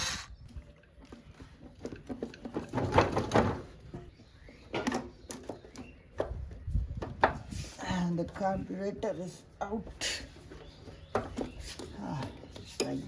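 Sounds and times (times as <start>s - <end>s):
hand tools and metal parts rattling: 0.1s - 9.4s, 10.0s - 13.0s.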